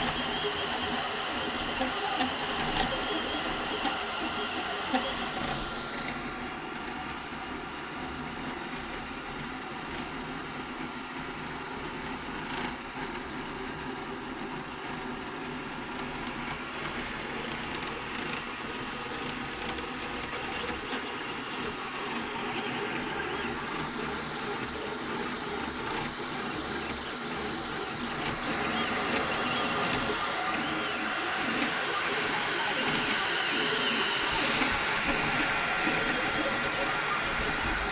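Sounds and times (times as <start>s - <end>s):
small motor whirring: 0.0s - 37.9s.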